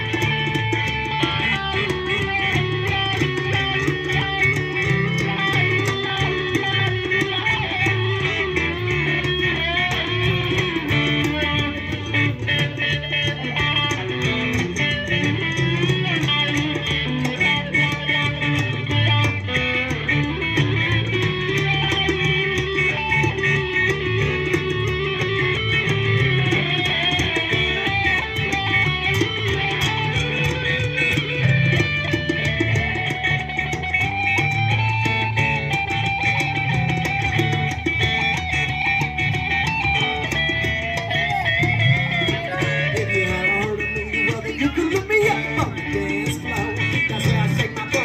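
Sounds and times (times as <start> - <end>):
bass guitar: 0.0 - 48.0
electric guitar: 0.0 - 48.0
steady beat: 0.0 - 48.0.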